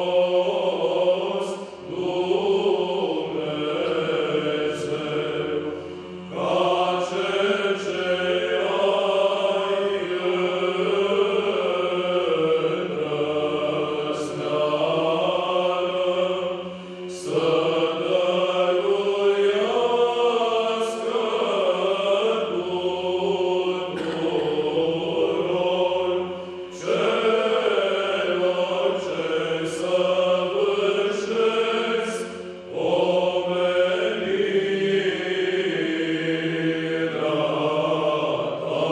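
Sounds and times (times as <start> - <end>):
male choir chanting: 0.0 - 38.9.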